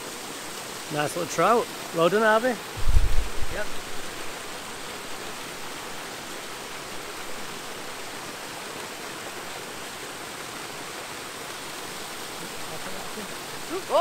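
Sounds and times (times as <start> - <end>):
waterfall pouring over stones: 0.0 - 14.0.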